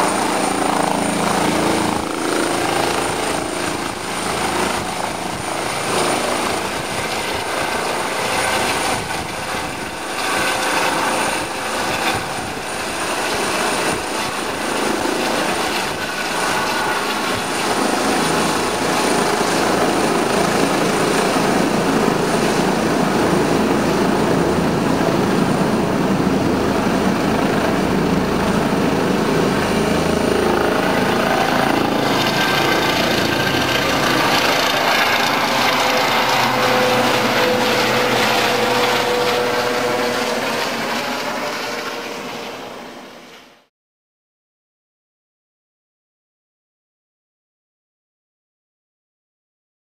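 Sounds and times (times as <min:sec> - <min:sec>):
helicopter rotor thrum: 0:00.0 - 0:42.6
high turbine whine: 0:00.0 - 0:43.3.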